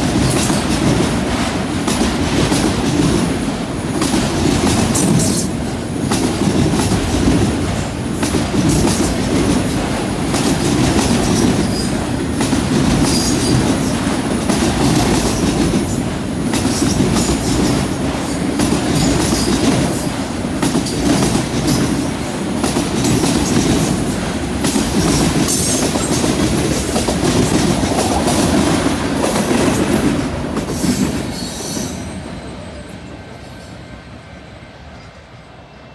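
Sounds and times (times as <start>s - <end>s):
wheels clacking over rail joints: 0.0s - 31.8s
train wheels rumbling on rails: 0.0s - 35.9s.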